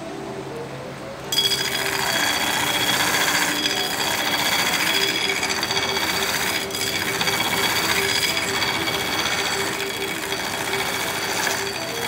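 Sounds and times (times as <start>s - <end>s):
belt grinder grinding steel: 1.3s - 12.0s.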